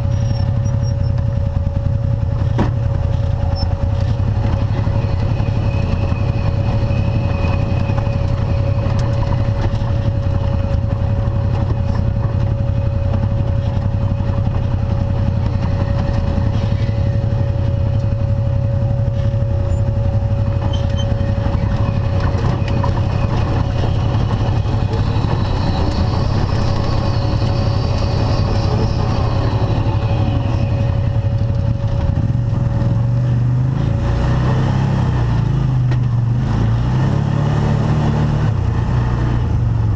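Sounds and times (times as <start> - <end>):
thin steady whine: 0.0 - 33.2
engine low rumble: 0.0 - 39.9.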